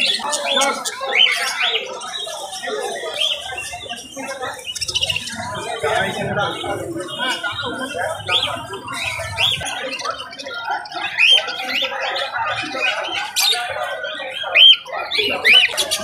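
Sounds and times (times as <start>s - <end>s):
chattering parrot calls: 0.0s - 16.0s
parrots squawking: 0.0s - 16.0s.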